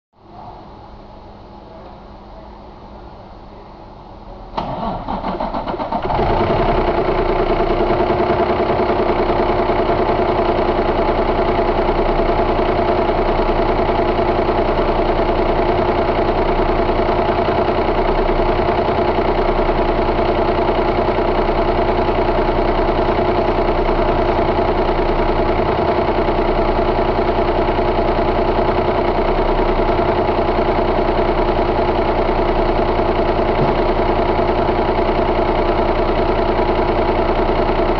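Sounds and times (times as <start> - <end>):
diesel engine starting and idling: 4.5 - 37.9.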